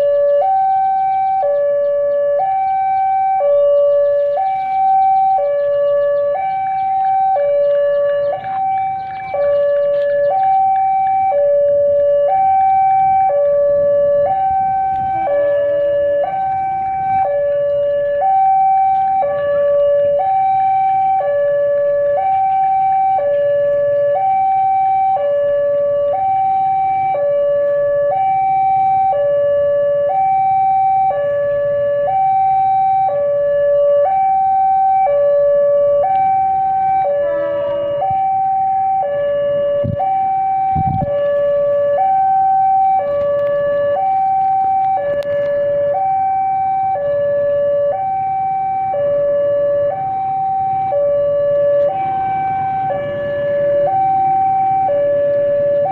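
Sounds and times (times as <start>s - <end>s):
level crossing two-tone alarm: 0.0s - 55.9s.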